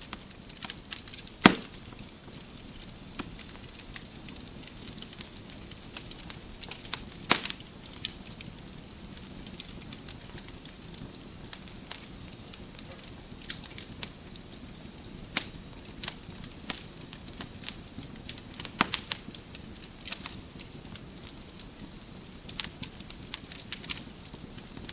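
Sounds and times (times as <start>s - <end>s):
fire flames rumbling: 0.0s - 24.9s
logs crackling and popping: 0.0s - 24.9s.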